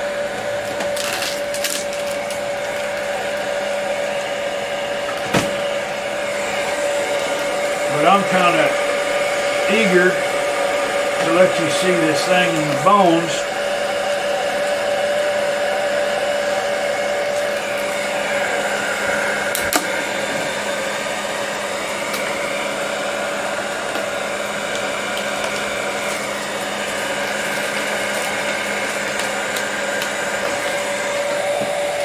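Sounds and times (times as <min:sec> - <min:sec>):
heat gun blowing: 0:00.0 - 0:32.0.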